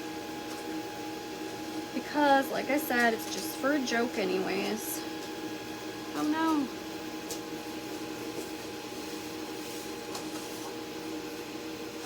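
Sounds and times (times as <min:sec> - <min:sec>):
cutting machine humming: 0:00.0 - 0:10.1.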